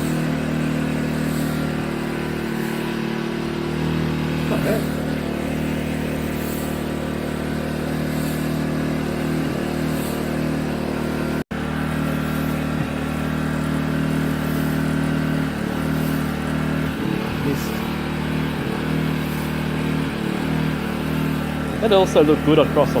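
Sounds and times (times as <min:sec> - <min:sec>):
generator running: 0:00.0 - 0:23.0.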